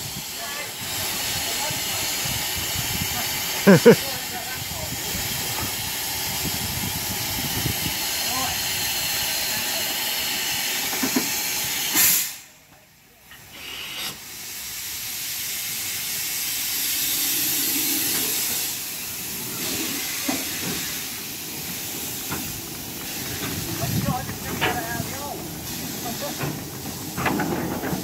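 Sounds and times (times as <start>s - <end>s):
steam locomotive hissing: 0.0s - 28.0s.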